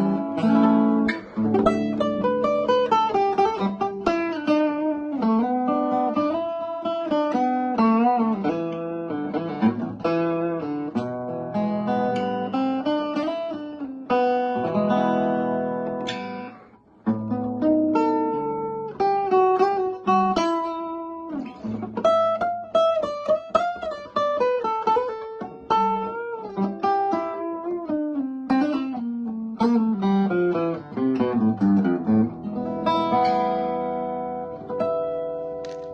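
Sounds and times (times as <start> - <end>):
guitar playing notes and chords: 0.0 - 35.9.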